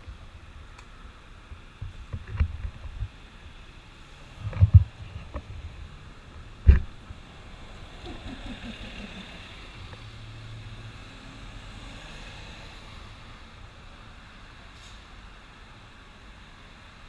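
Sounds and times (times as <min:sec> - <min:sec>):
vehicle rumble and hiss: 0:00.0 - 0:17.0.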